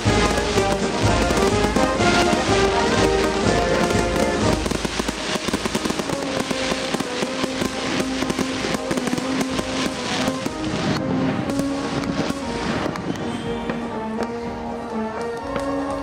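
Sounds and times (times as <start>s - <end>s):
firework bursts crackling and popping: 0.0s - 14.3s
background music: 0.0s - 16.0s.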